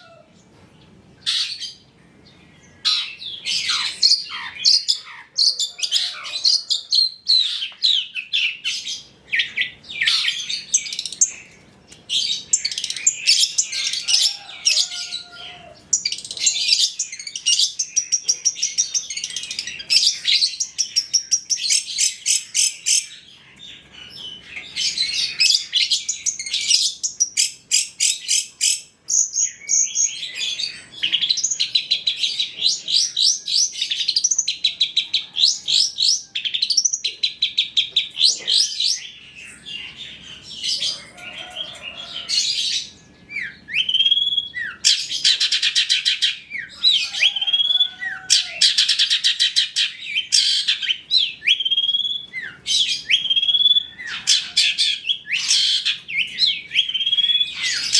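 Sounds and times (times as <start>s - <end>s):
shrike song with trills and whistles: 1.2s - 57.9s.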